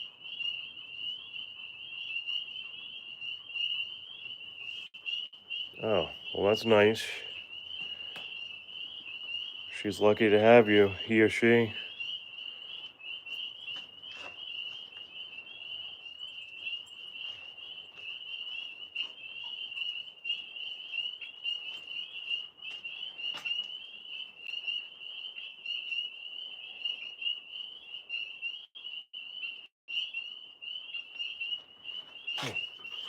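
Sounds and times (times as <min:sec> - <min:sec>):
frogs calling with high peeps: 0:00.0 - 0:33.0.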